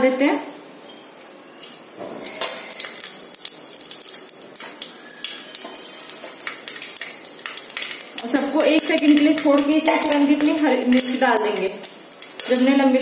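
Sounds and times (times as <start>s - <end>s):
spices sizzling in hot oil: 1.1s - 13.0s.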